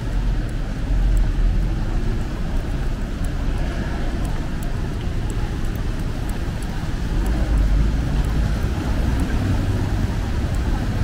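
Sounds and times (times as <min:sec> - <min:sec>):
rain ticking: 0:00.0 - 0:11.0
traffic rumble and tyre hiss: 0:00.0 - 0:11.0.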